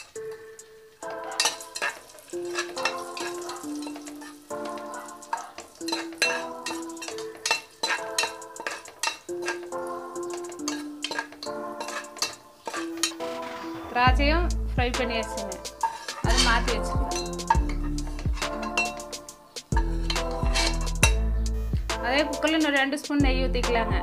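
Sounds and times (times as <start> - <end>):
raisins frying: 0.0 - 23.2
instrumental background music: 0.0 - 24.0
spoon scraping metal pot: 1.0 - 14.0, 15.0 - 21.4.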